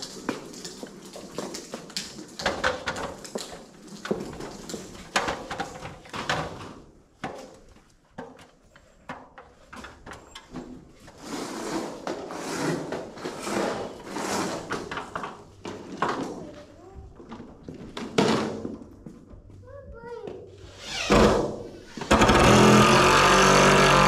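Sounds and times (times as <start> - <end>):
rustling and scraping: 0.0 - 22.8.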